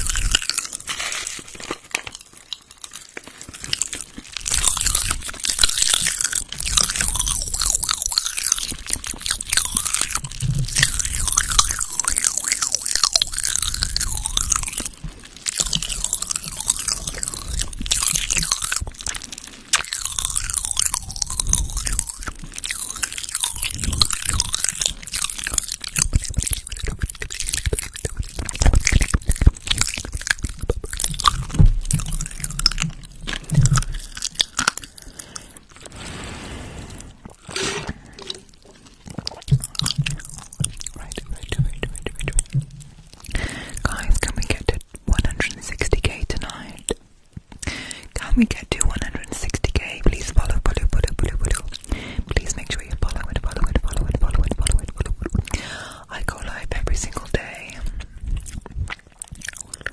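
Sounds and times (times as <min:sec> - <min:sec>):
crunching and chewing snack: 0:00.0 - 0:59.9.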